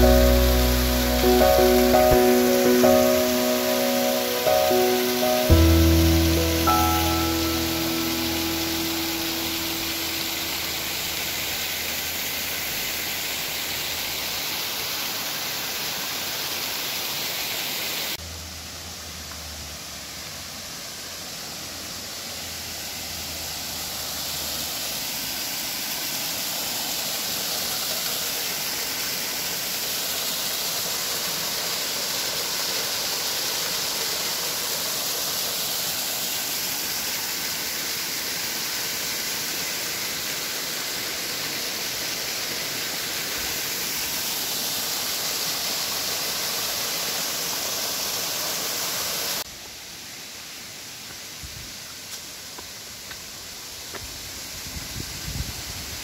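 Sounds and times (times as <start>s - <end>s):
water rushing in stream: 0.0s - 49.5s.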